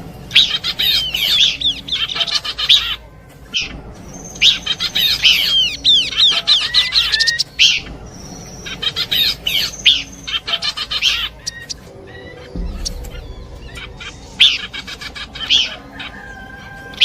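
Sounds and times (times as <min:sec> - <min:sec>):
swooping downward bird notes: 0:00.0 - 0:17.0
high bird chirps: 0:00.3 - 0:17.0.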